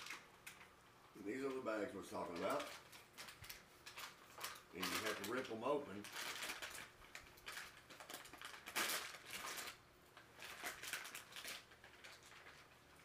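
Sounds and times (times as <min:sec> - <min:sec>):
plastic wrap crinkling and tearing: 0:00.0 - 0:13.0.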